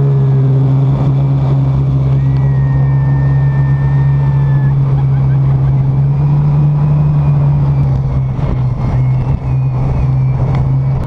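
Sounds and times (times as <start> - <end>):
rushing wind and water: 0.0 - 11.0
speedboat engine drone: 0.0 - 11.0.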